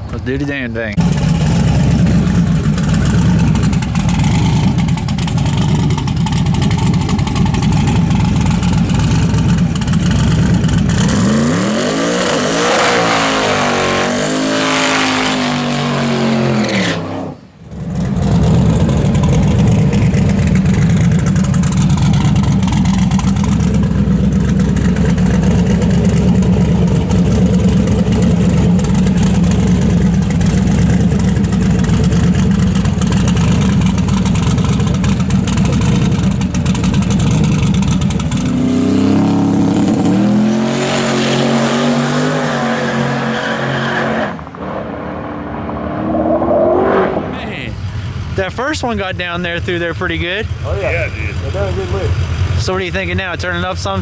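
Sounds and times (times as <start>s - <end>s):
loud engine rumble and revving: 1.0s - 54.0s.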